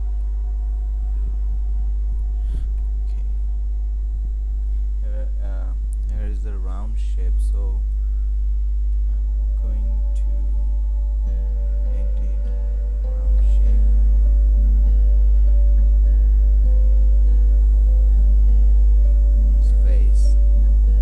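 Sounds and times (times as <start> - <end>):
faint wavering pitched sounds: 0.0 - 21.0
mains electrical hum: 0.0 - 21.0.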